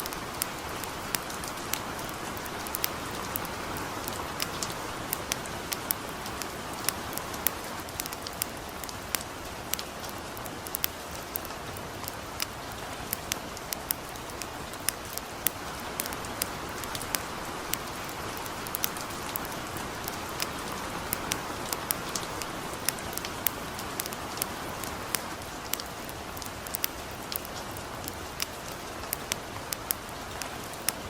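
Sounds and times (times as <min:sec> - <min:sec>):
campfire crackling: 0:00.0 - 0:31.0
light rain hiss: 0:00.0 - 0:31.0.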